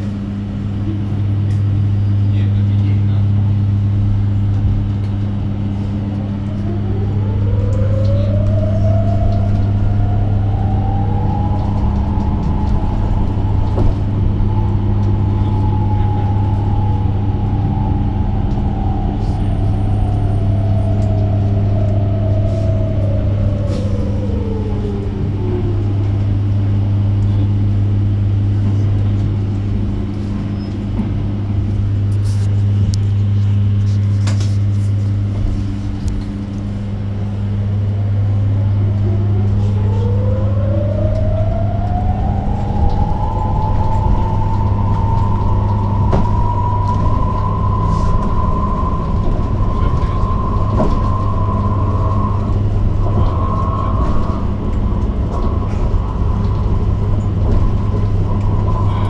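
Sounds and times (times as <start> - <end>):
electric bus motor whining: 0.0 - 59.0
steady low hum: 0.0 - 59.0.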